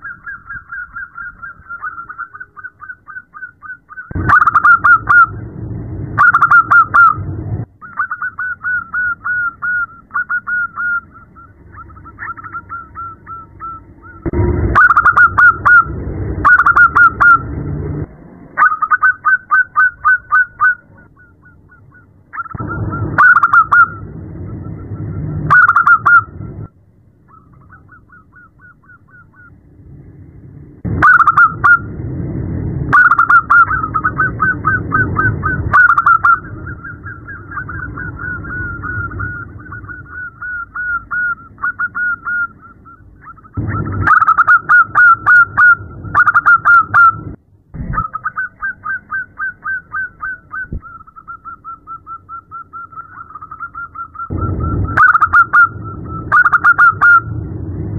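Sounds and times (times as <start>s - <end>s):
dove staccato calls: 0.0s - 5.4s, 6.2s - 7.2s, 7.8s - 17.5s, 18.6s - 24.2s, 25.5s - 26.4s, 27.2s - 29.6s, 30.9s - 31.9s, 32.9s - 57.3s
low rumbling noise: 0.0s - 57.9s.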